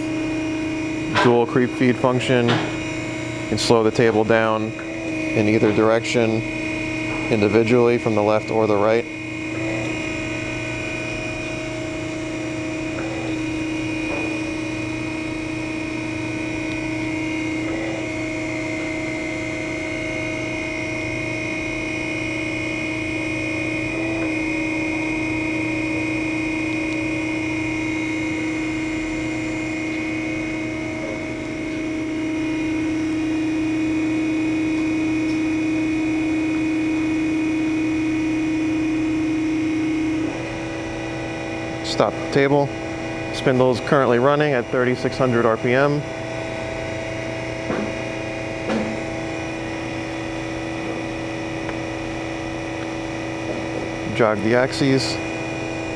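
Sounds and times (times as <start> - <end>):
surface grinder whining: 0.0 - 55.9.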